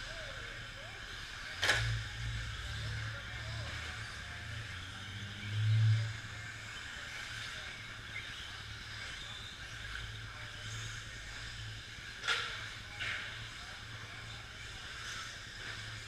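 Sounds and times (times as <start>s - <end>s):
low hall hum: 0.0s - 16.0s.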